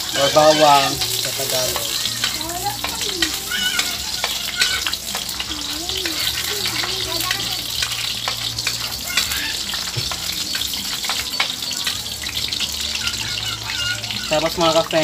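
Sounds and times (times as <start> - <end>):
garlic sizzling in oil: 0.0 - 15.0
metal spatula scraping a pan: 0.0 - 15.0.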